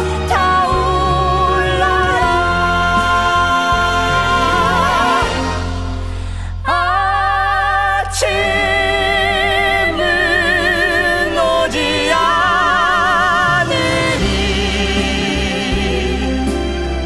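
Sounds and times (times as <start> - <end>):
low musical accompaniment: 0.0 - 7.2, 8.1 - 17.0
voices singing with vibrato: 0.0 - 17.0.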